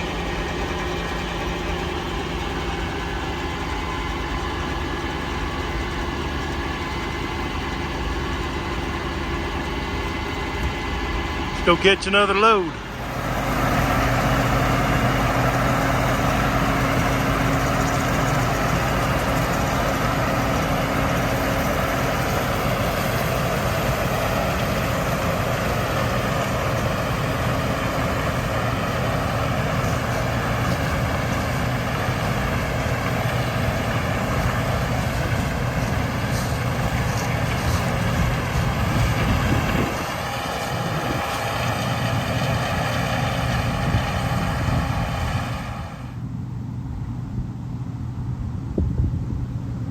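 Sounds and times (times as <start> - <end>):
diesel farm vehicle engine running: 0.0 - 49.9.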